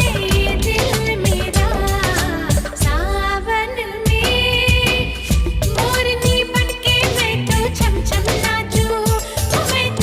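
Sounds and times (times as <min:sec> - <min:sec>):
steady drum beat: 0:00.0 - 0:03.2, 0:04.1 - 0:10.0.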